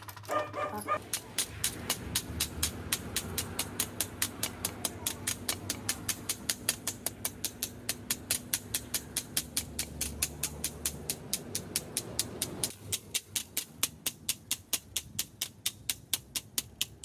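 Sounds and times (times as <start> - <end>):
hammer tapping sheet steel: 0.3 - 17.0.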